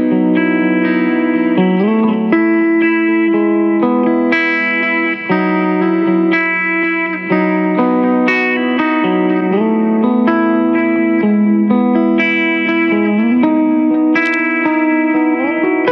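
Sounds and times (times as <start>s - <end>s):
clean electric guitar chords: 0.0s - 15.9s.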